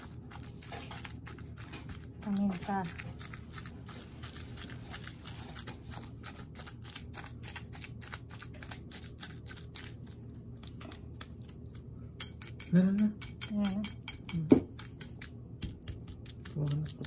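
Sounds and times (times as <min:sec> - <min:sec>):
whisk clicking and scraping bowl: 0:00.0 - 0:17.0.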